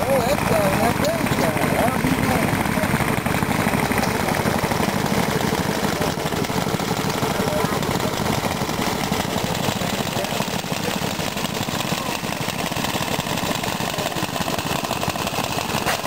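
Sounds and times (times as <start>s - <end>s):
old gas engines chugging: 0.0s - 16.0s.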